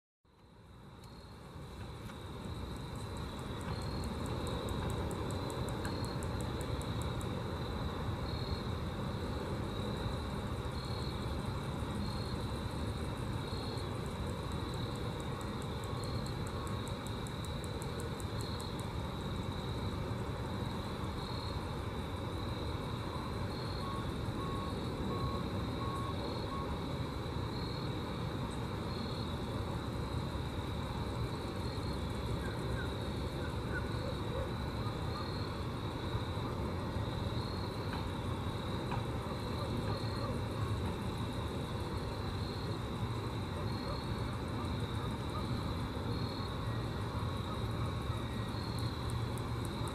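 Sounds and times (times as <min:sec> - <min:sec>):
constant low rumble: 0:00.3 - 0:49.9
grasshoppers chirping: 0:00.6 - 0:49.9.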